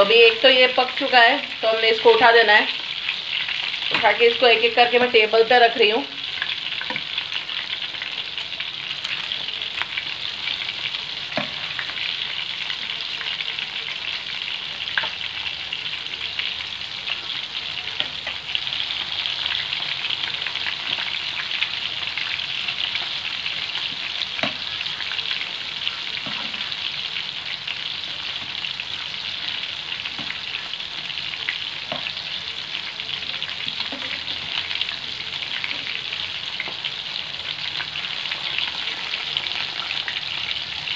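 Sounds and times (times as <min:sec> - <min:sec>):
prawns sizzling in hot oil: 0:00.0 - 0:40.9.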